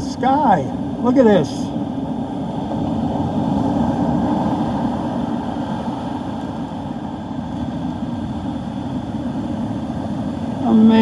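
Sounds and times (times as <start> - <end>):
surf: 0.0 - 11.0
wind buffeting microphone: 0.0 - 11.0.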